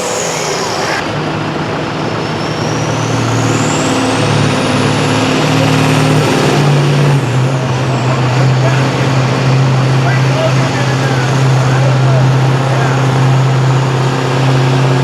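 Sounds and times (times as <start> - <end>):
tractor engine running hard: 0.0 - 15.0
turbocharger whine: 0.0 - 15.0.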